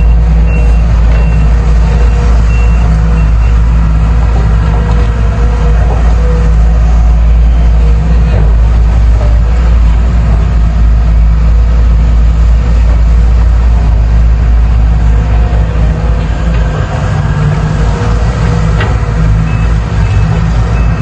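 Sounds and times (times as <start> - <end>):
diesel excavator engine rumbling: 0.0 - 21.0.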